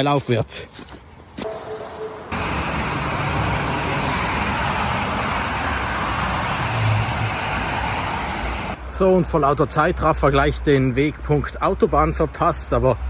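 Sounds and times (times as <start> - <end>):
distant motorway traffic: 0.0 - 13.0.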